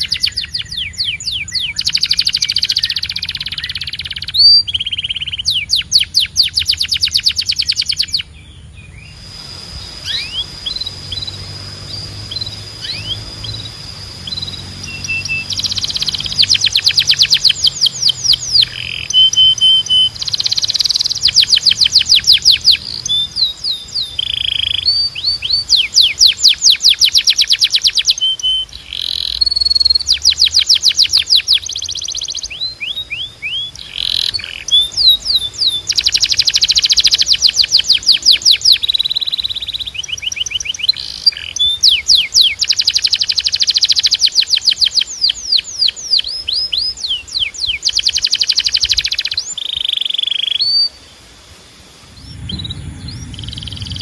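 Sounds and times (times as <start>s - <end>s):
canary singing trills: 0.0s - 51.1s, 52.0s - 54.0s.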